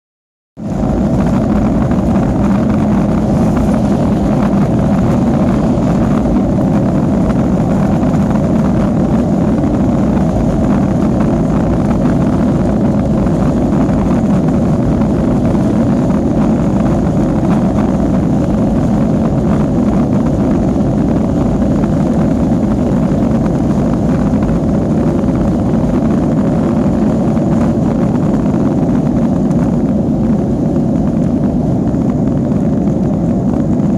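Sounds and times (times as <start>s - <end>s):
jet engines roaring at takeoff: 0.6s - 33.9s.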